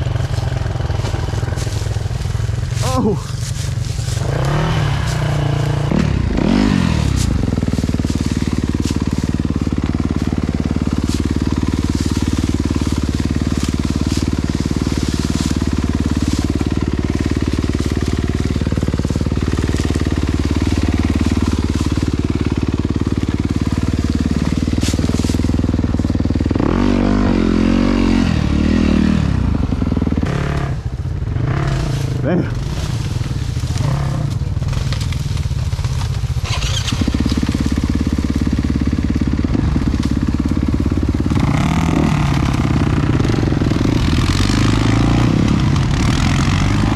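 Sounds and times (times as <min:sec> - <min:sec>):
dirt bike engine idling: 0:00.0 - 0:46.9.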